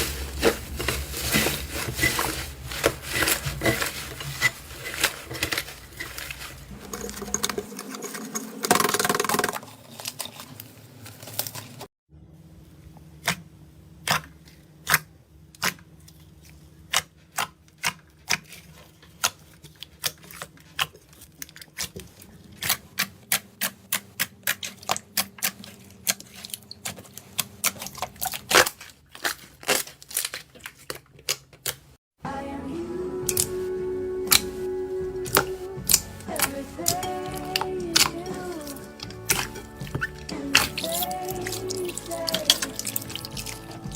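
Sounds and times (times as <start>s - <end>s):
slime squishing: 0.0s - 11.9s, 12.8s - 32.0s, 34.2s - 43.9s.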